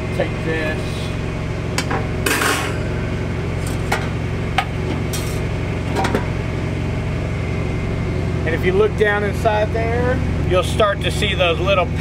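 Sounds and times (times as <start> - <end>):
generator humming: 0.0 - 12.0.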